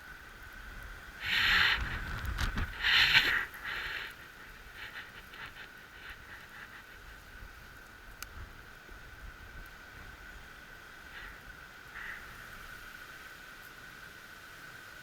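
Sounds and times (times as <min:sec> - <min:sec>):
campfire hissing: 0:00.0 - 0:15.0
fire crackles: 0:00.0 - 0:15.0.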